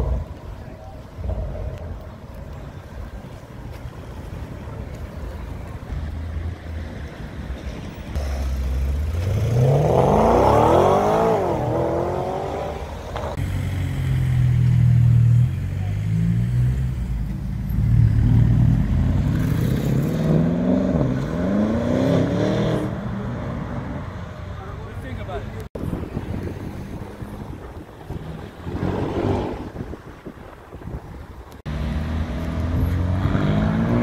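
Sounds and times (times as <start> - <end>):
car engines accelerating hard: 5.5 - 30.8, 31.6 - 34.0.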